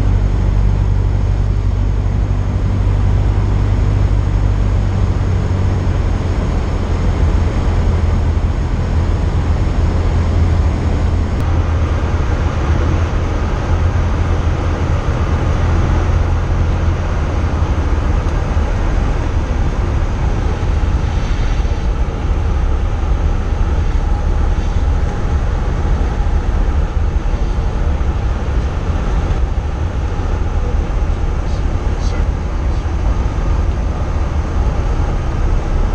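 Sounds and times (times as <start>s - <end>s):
airplane engine and propeller droning: 0.0s - 35.9s
wind noise rushing: 0.0s - 35.9s.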